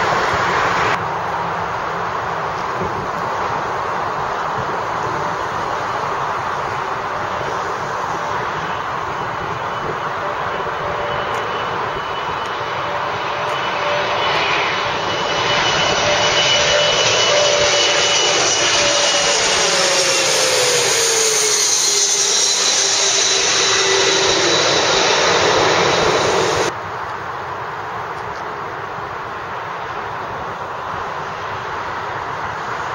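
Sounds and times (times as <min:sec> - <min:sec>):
jet roar passing overhead: 0:00.0 - 0:26.8
jet engine whine: 0:00.0 - 0:32.9.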